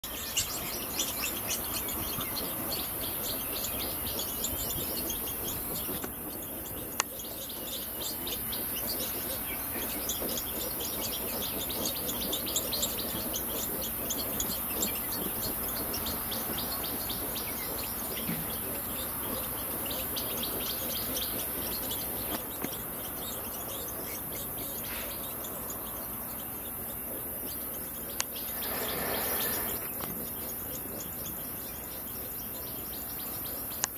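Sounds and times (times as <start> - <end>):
rapid high chirping calls: 0.0 - 33.9.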